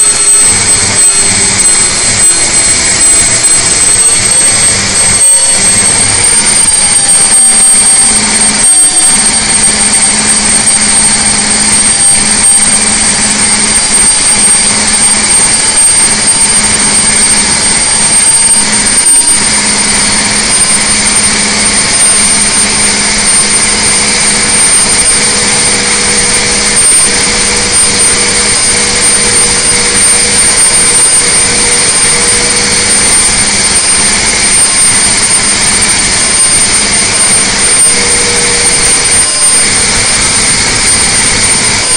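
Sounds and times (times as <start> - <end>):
diesel engine droning at full throttle: 0.0 - 41.9.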